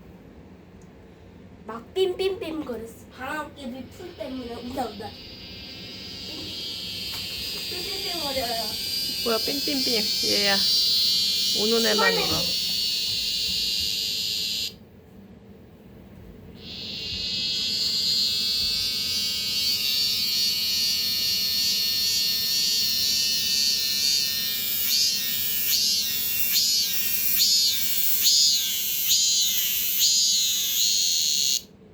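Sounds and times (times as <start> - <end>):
cicada buzzing: 3.9 - 14.8, 16.6 - 31.7.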